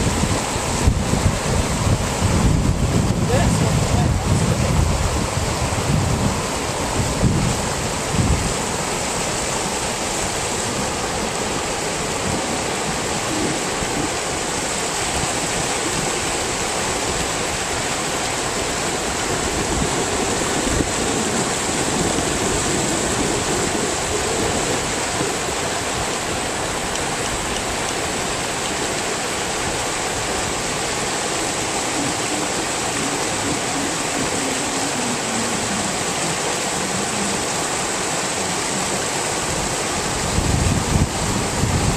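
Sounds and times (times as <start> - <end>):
floodwater rushing: 0.0 - 41.9
wind buffeting microphone: 0.0 - 41.9.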